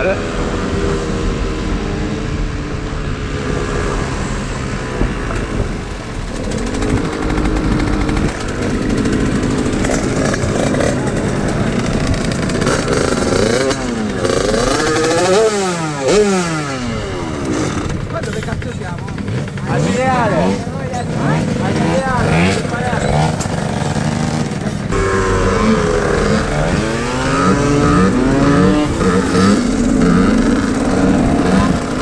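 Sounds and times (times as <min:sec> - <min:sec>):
two-stroke motorbike engine revving: 0:00.0 - 0:32.0.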